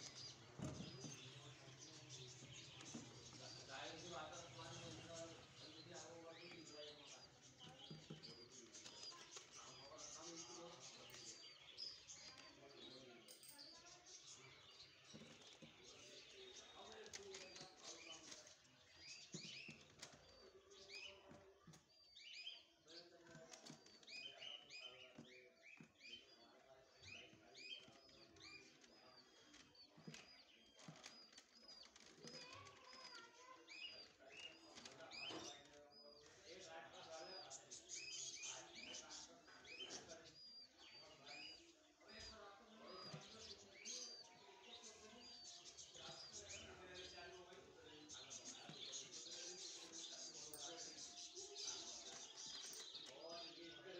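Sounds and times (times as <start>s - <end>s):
faint voices: 0.0s - 53.9s
small birds chirping: 0.0s - 53.9s.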